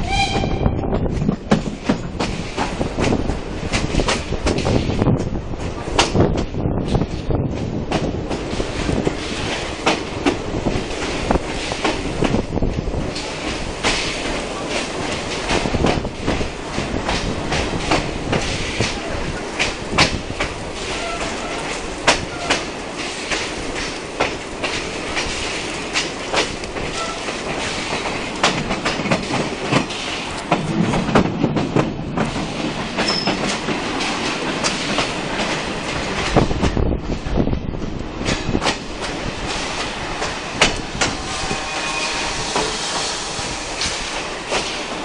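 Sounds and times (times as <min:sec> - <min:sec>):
train wheels rumbling: 0:00.0 - 0:45.0
wheels clicking over rail joints: 0:00.1 - 0:41.3.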